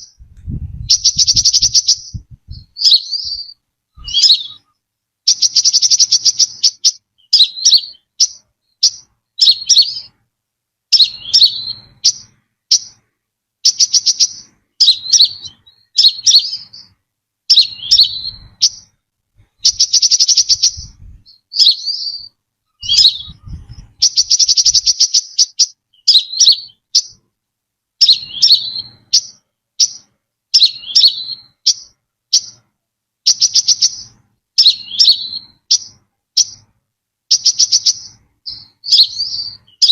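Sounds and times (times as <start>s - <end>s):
sunbird trills and chirps: 0.0s - 10.2s, 10.9s - 13.0s, 13.6s - 27.2s, 28.0s - 36.7s, 37.3s - 39.9s.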